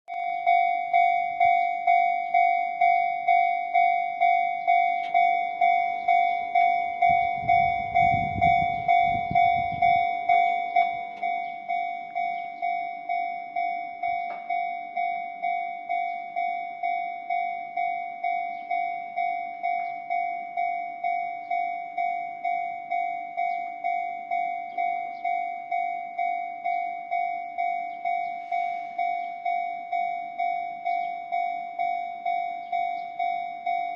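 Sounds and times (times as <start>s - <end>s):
electric train rumbling: 0.1s - 33.9s
level crossing bell ringing: 0.1s - 33.9s.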